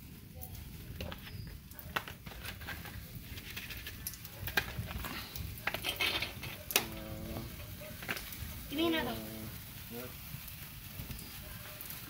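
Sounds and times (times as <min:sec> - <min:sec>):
sparklers crackling and popping: 0:00.0 - 0:12.0.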